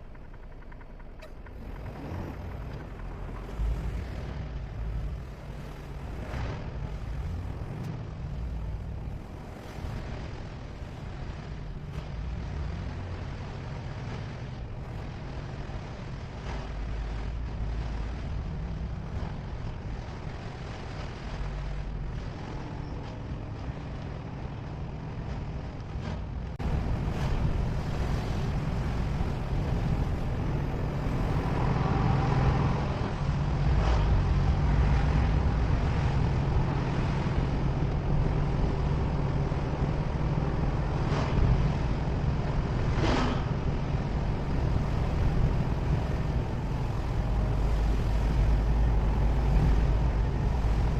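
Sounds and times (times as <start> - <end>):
vehicle engine and tyre rumble: 0.0 - 50.9.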